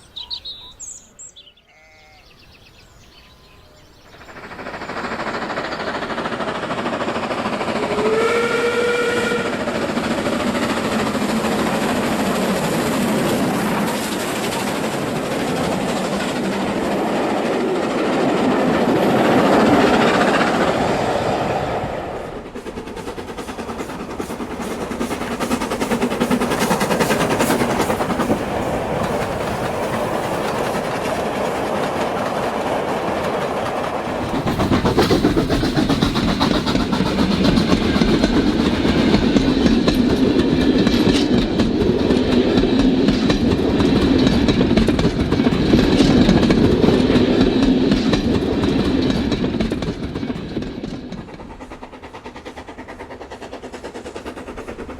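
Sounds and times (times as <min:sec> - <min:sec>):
model train wheels clicking: 0:04.1 - 0:54.9.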